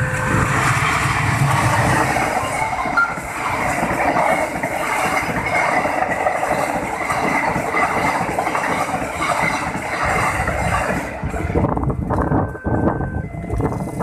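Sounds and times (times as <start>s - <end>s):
train wheels running over rails: 0.0s - 14.0s.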